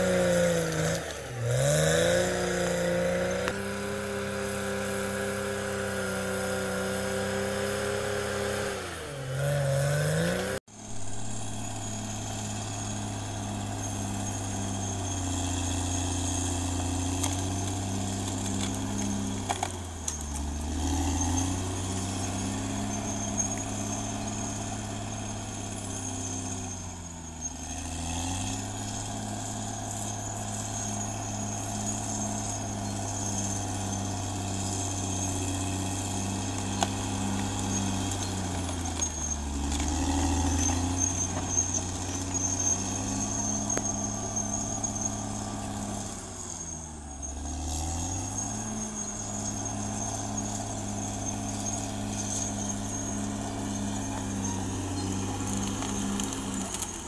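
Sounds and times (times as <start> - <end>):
bulldozer diesel engine labouring: 0.0 - 57.0.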